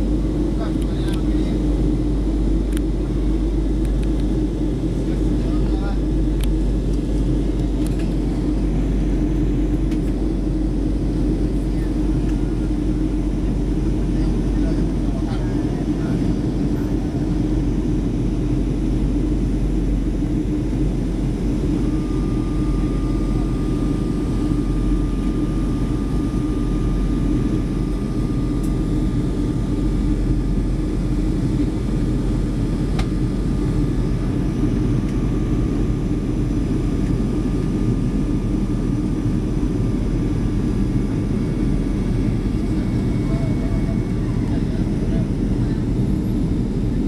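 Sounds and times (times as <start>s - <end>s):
jet engine rumble: 0.0s - 47.0s.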